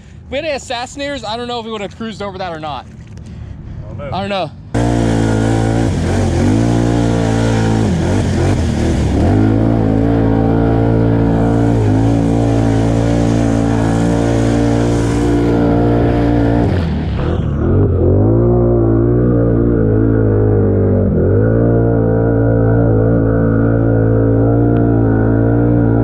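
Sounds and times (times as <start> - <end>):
atv engine running hard: 4.7 - 26.0.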